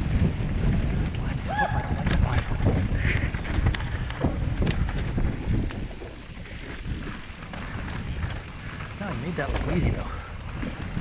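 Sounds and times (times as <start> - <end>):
bike rattling and knocking: 0.0 - 11.0
bike tyres rumbling on dirt: 0.0 - 11.0
wind rushing over microphone: 0.0 - 11.0.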